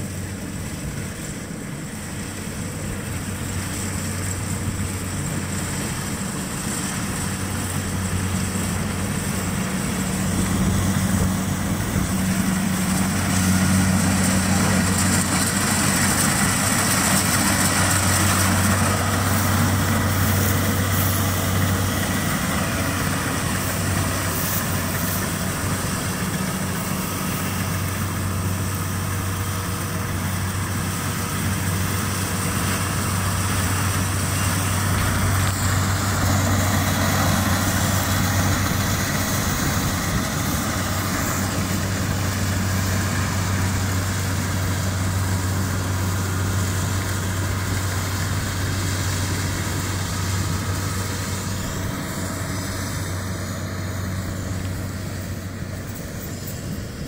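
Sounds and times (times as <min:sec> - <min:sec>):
diesel engine hum: 0:00.0 - 0:57.0
threshing machinery whirring: 0:00.0 - 0:57.0.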